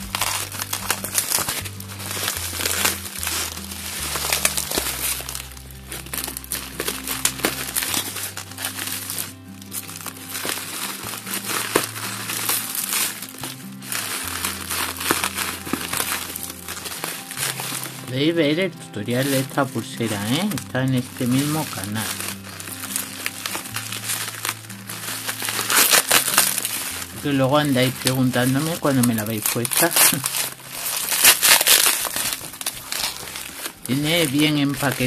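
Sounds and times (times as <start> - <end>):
background music with bass line: 0.0 - 35.0
bubble wrap crinkling and crackling: 0.0 - 35.0.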